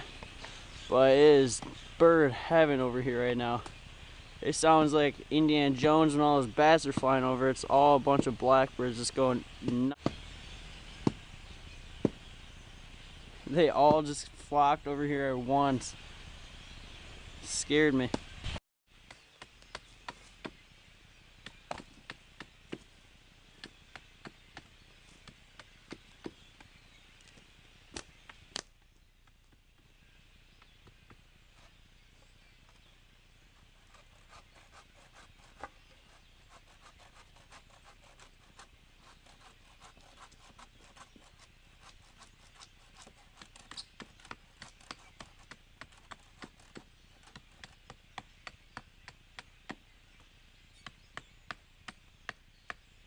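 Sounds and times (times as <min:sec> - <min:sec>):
blackbird flock chatter: 0:00.0 - 0:18.6, 0:19.6 - 0:53.0.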